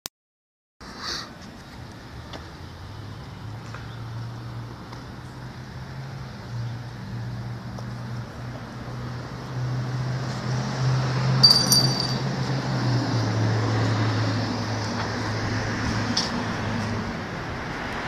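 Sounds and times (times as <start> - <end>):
outdoor background noise: 0.8 - 18.0.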